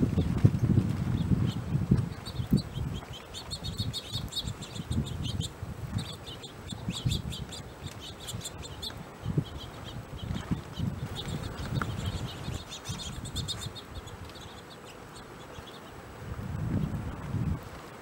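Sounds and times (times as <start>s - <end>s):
wind rumble on microphone: 0.0s - 14.6s, 15.4s - 18.0s
small birds chirping: 1.0s - 17.6s.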